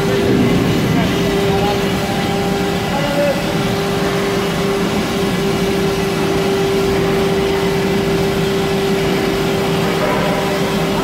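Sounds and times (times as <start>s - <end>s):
machinery hum with steady tone: 0.0s - 11.0s.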